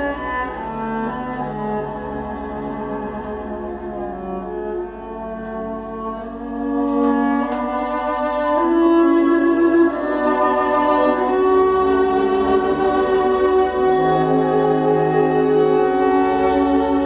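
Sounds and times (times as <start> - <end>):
classical string music from vinyl: 0.0 - 17.0.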